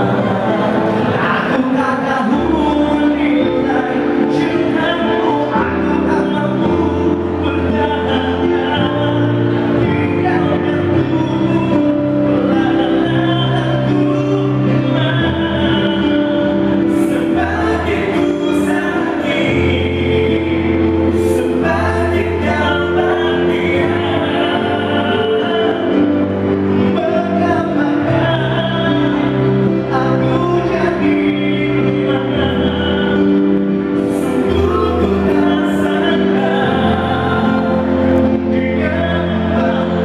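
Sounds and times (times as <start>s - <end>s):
man singing into a microphone: 0.0s - 40.0s
recorded backing track: 0.0s - 40.0s.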